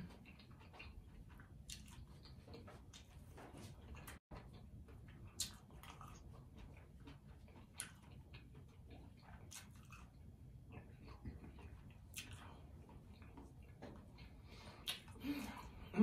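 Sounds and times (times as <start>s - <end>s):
chewing crunchy food: 0.0s - 16.0s.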